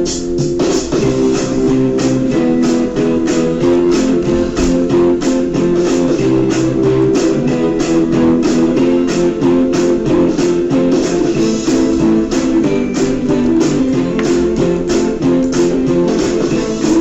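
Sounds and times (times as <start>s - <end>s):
strummed guitar music: 0.9s - 17.0s.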